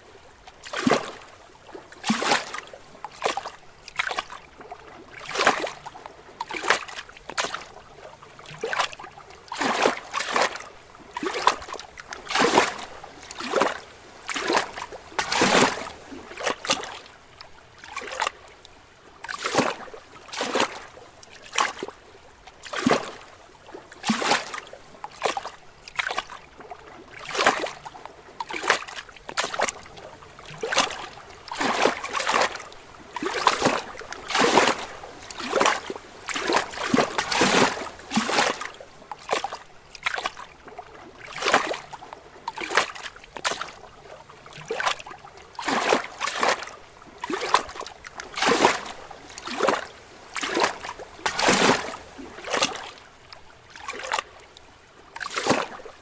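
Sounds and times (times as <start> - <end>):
faint wash of water: 0.0 - 56.0
waves lapping against rocks: 0.0 - 56.0.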